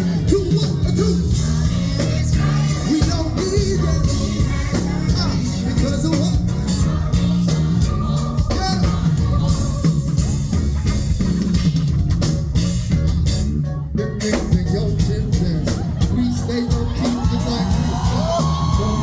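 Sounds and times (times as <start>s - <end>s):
bass guitar: 0.0s - 19.0s
drum kit steady beat: 0.0s - 19.0s.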